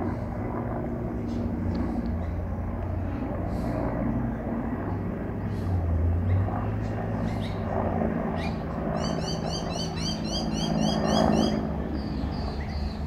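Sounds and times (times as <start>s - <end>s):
distant helicopter flying past: 0.0s - 13.0s.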